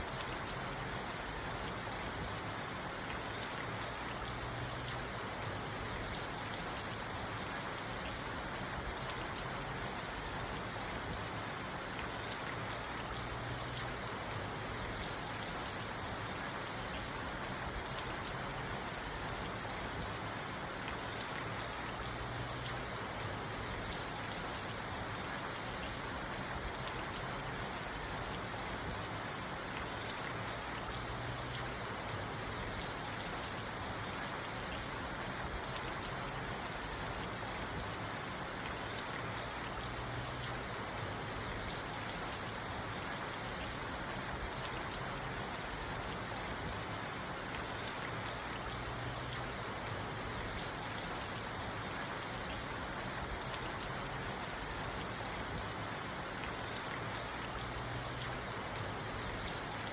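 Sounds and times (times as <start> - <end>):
rain on a car roof: 0.0 - 59.9.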